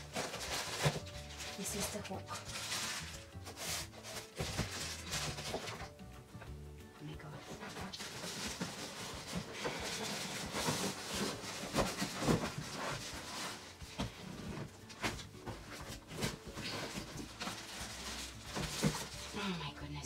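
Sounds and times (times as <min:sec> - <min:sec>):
cardboard boxes scraping and rustling: 0:00.0 - 0:05.8, 0:07.4 - 0:19.4
plastic wrapping crinkling: 0:00.0 - 0:06.0, 0:07.4 - 0:19.8.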